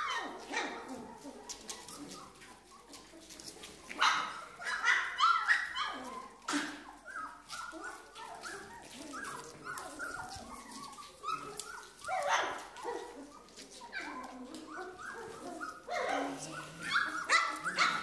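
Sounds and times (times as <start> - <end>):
puppies whining and yelping: 0.0 - 18.0.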